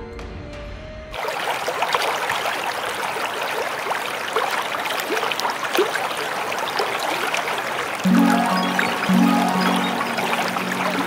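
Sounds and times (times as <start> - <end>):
stream babbling over rocks: 1.2 - 11.0.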